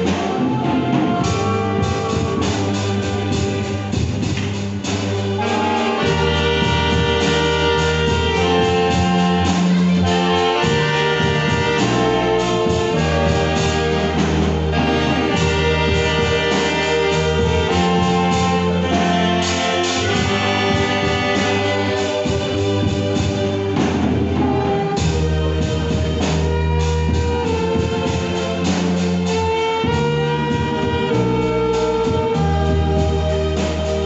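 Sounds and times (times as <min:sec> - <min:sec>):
saxophones and violins playing: 0:00.0 - 0:34.0
steady bass line: 0:00.0 - 0:34.0.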